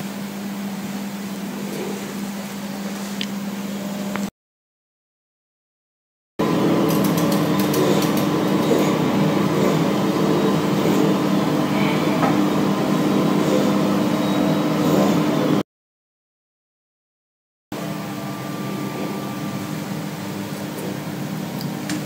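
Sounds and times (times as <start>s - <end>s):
mechanical hum with low drone: 0.0s - 4.3s, 6.4s - 15.6s, 17.7s - 22.0s.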